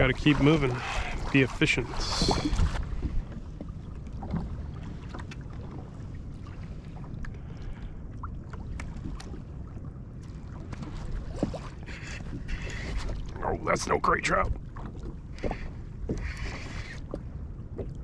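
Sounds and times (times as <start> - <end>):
water lapping against hull: 0.0 - 18.0
wind rumbling on microphone: 0.0 - 18.0.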